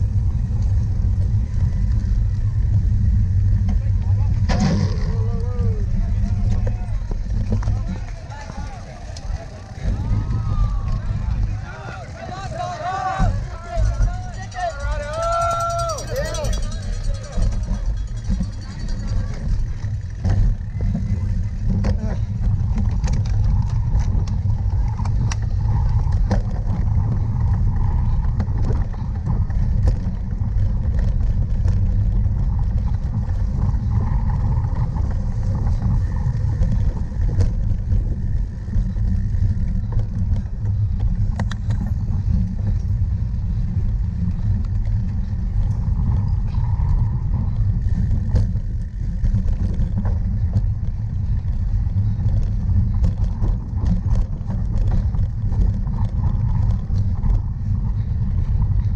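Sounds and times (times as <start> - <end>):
bike clicks and rattles: 0.0 - 58.9
wind rumble on microphone: 0.0 - 58.9.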